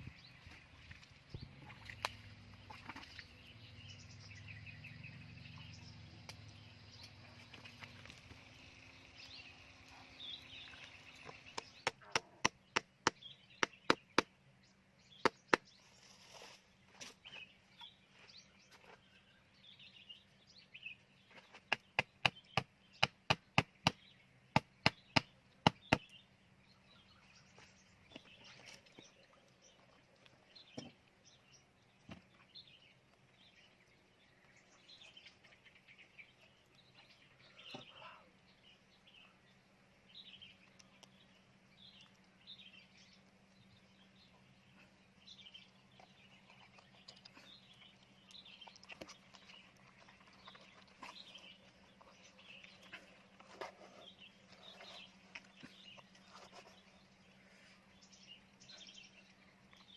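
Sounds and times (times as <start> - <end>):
birds chirping faintly: 0.0 - 59.9.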